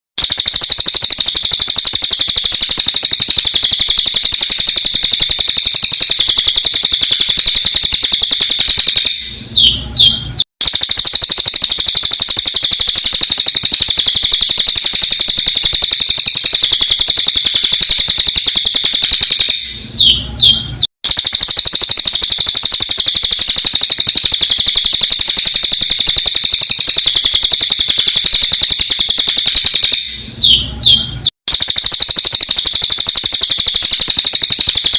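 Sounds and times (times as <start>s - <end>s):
sped up bird twittering: 0.2s - 34.9s.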